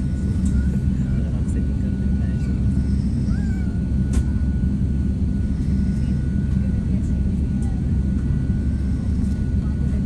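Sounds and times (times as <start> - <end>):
jet engines rumbling: 0.0 - 10.0
thin steady whine: 0.0 - 10.0.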